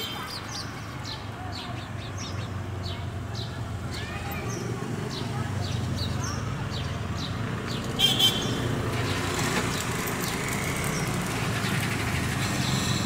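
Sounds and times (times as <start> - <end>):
road traffic drone: 0.0 - 13.0
small birds chirping: 0.0 - 13.0.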